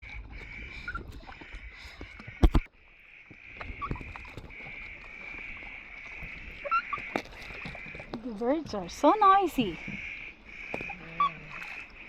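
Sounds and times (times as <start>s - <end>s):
birds chirring and chirping: 0.0s - 12.0s.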